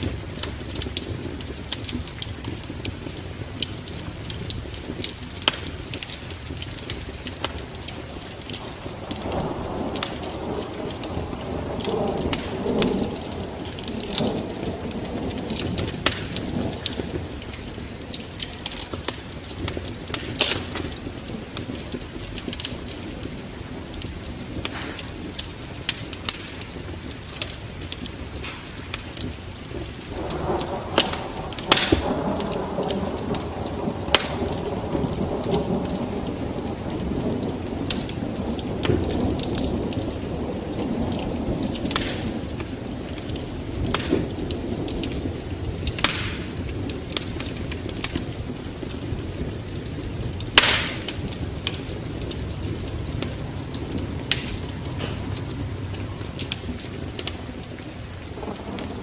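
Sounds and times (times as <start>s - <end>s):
rushing flame: 0.0s - 59.0s
wood fire crackling and popping: 0.0s - 59.0s.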